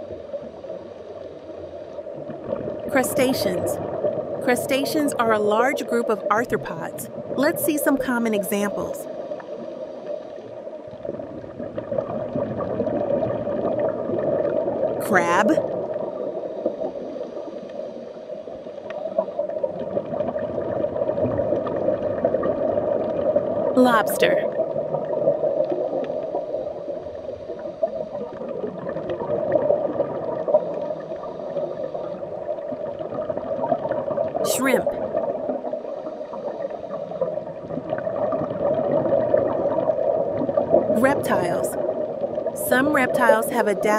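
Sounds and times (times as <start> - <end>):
underwater bubbling and gurgling: 0.0 - 43.9.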